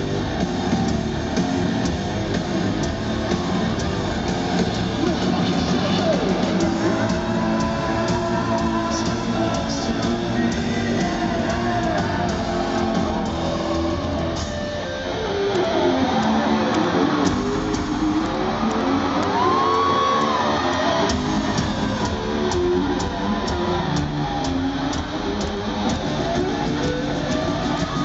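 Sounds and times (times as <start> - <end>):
distorted electric guitar: 0.0 - 28.0
rock band playing loudly: 0.0 - 28.0.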